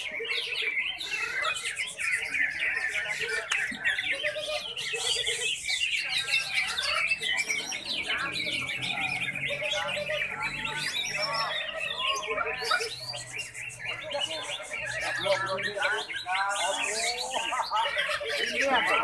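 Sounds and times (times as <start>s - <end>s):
birds singing warbled phrases: 0.0s - 19.0s.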